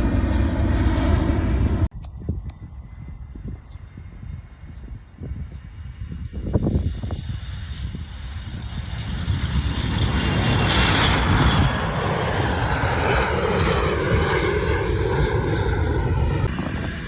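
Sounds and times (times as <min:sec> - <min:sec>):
airliner engines passing: 0:00.0 - 0:17.0.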